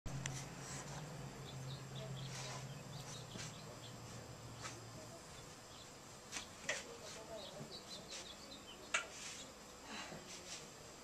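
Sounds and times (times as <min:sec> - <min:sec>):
low steady hum: 0:00.1 - 0:11.0
small birds chirping: 0:00.2 - 0:10.6.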